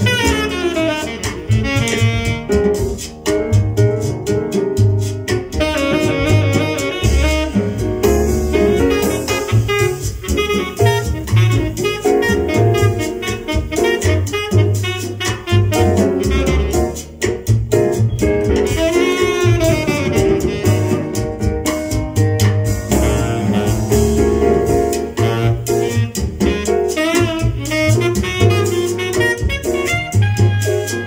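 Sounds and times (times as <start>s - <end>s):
jazz from a vinyl record: 0.0s - 31.0s.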